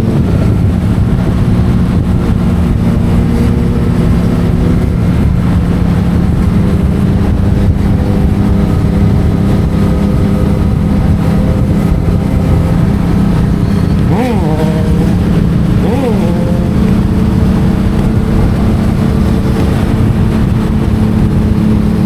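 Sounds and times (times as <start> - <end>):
motorcycle engine at steady revs: 0.0 - 22.0.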